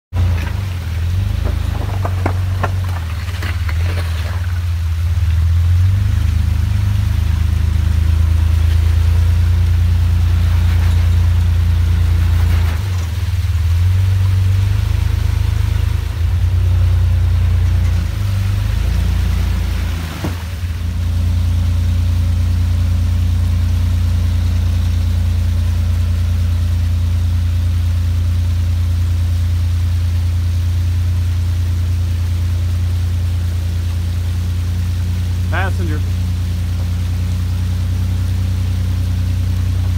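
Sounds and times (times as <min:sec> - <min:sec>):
engine running at low revs: 0:00.0 - 0:39.9.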